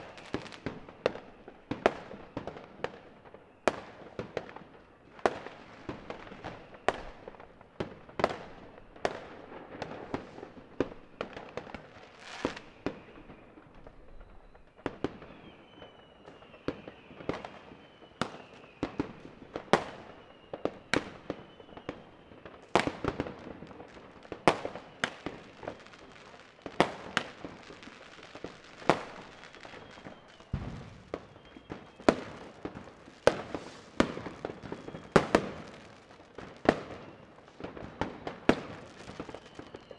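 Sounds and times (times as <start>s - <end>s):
falling firework whistles: 0.0s - 39.9s
fireworks and firecrackers banging: 0.0s - 39.9s.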